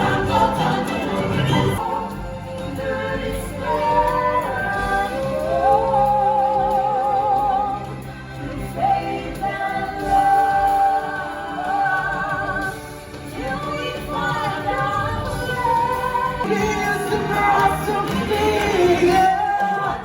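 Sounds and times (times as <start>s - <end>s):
instrumental backing music: 0.0s - 20.0s.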